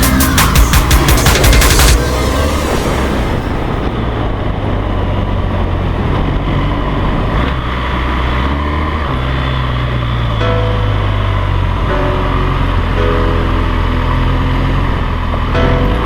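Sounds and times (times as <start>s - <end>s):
road and wind noise: 2.0s - 16.0s.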